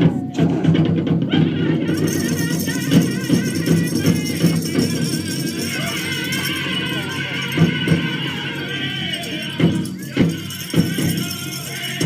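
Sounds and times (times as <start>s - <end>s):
big drum beating: 0.0s - 12.0s
group singing: 0.0s - 12.0s
jingling rattle: 1.9s - 12.0s.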